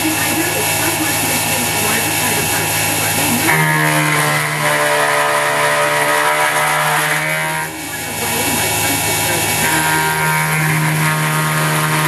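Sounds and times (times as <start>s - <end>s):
mini mill machining aluminium: 0.0s - 12.0s.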